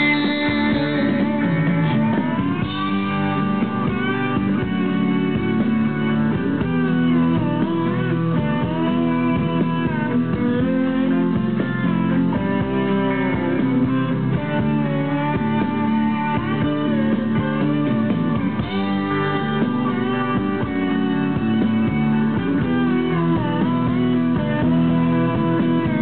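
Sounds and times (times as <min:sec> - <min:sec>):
electric lead guitar melody: 0:00.0 - 0:26.0
rock band chords: 0:00.0 - 0:26.0.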